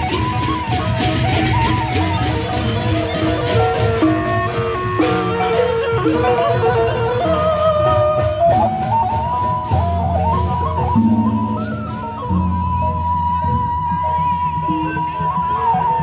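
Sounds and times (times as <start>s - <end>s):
bamboo flute melody: 0.0s - 16.0s.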